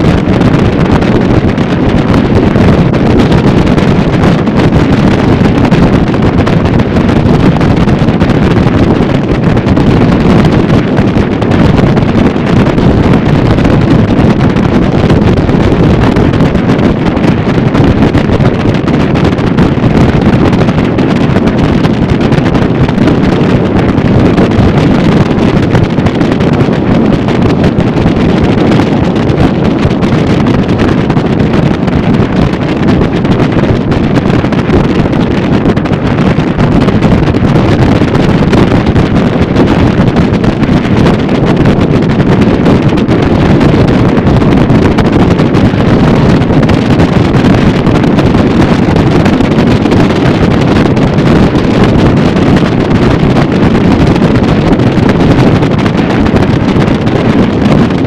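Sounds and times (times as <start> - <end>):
motorboat motor: 0.0 - 58.0
wind rushing over microphone: 0.0 - 58.0.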